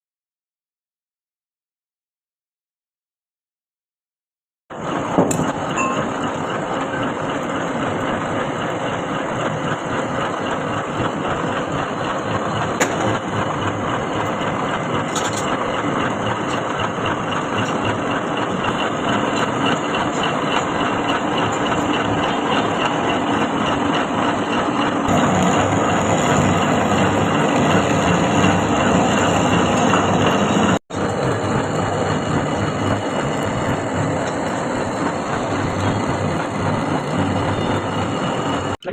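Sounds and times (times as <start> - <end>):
metal lathe running: 4.7 - 38.9.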